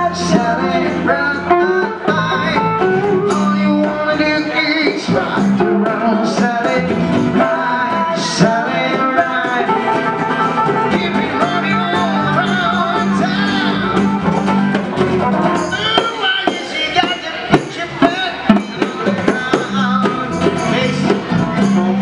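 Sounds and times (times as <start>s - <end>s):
person singing: 0.0s - 14.4s, 15.5s - 22.0s
live band music: 0.0s - 22.0s
hand drum: 0.1s - 22.0s.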